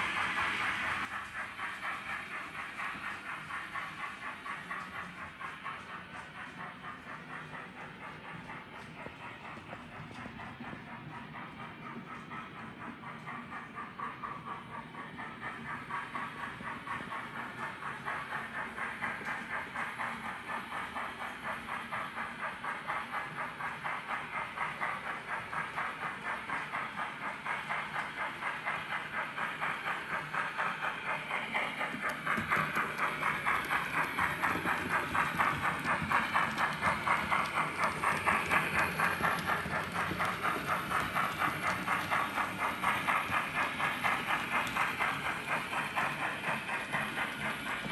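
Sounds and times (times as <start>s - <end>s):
steam locomotive chuffing with hiss: 0.0s - 47.9s.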